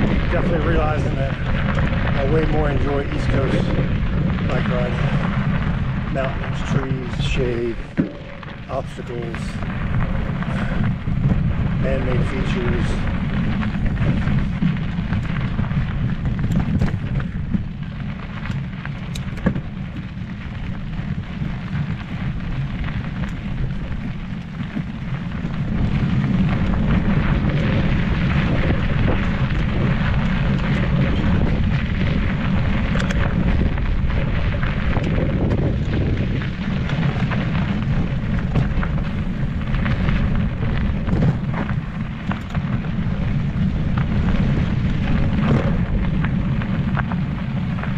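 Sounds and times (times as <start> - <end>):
bike clicks and rattles: 0.0 - 47.9
tyres on dirt and gravel: 0.0 - 47.9
wind buffeting microphone: 0.0 - 47.9.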